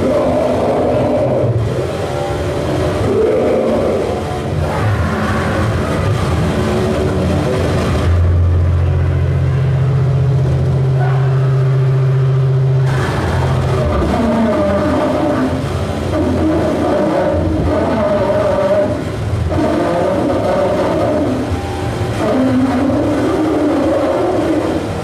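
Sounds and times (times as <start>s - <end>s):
harsh distorted noise music: 0.0s - 25.0s
steady low drone: 0.0s - 25.0s.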